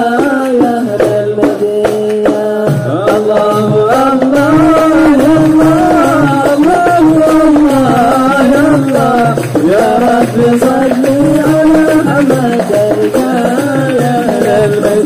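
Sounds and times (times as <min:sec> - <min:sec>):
devotional melody: 0:00.0 - 0:15.0
hand drums beating: 0:00.0 - 0:15.0.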